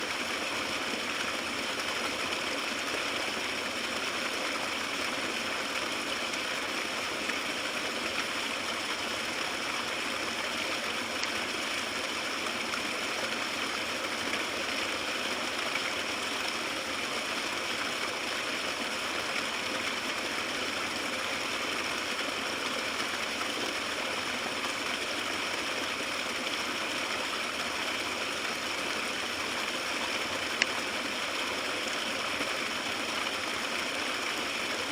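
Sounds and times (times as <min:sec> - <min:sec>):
stream splashing over rocks: 0:00.0 - 0:34.9.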